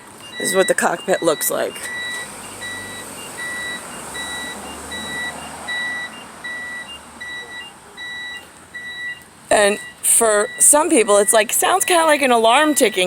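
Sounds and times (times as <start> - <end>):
truck warning alarm beeping: 0.0 - 13.0.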